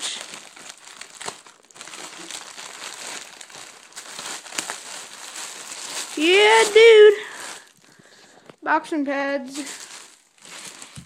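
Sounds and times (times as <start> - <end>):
plastic packaging crinkling: 0.0 - 8.7, 9.4 - 11.0.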